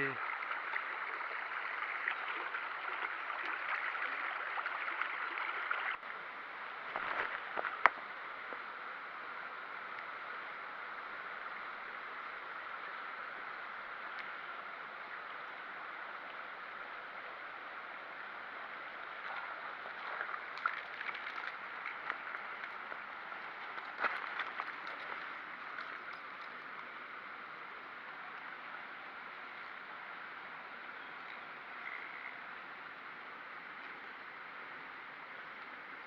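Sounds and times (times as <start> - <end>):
stream water flowing: 0.0 - 36.0.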